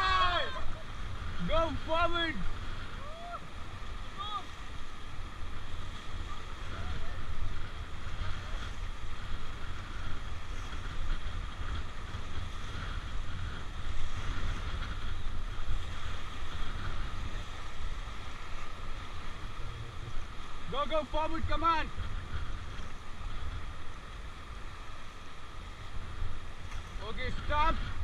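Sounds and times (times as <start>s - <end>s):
rushing whitewater: 0.0s - 28.0s
wind buffeting microphone: 0.0s - 28.0s.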